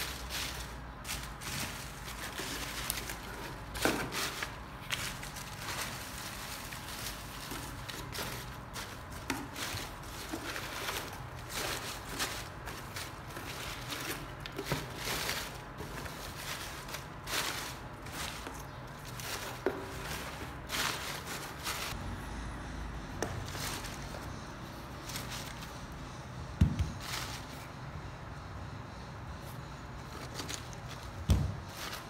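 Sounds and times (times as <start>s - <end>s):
dry leaves rustling and crackling: 0.0s - 22.4s, 23.1s - 26.2s, 26.9s - 27.8s, 29.7s - 32.0s.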